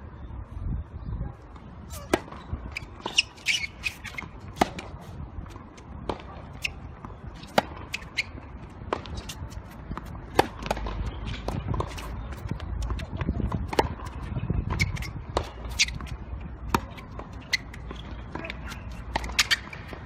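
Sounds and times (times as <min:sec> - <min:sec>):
tennis ball hit with racket: 0:01.9 - 0:20.0.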